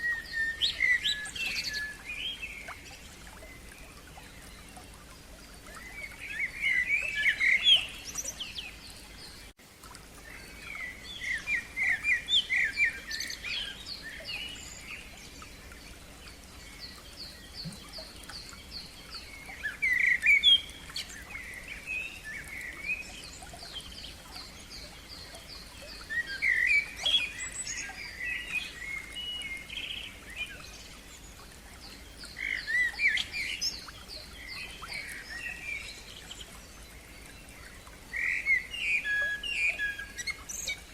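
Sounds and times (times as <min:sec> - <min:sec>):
faint stream: 0:00.0 - 0:40.9
songbirds singing: 0:00.0 - 0:40.9.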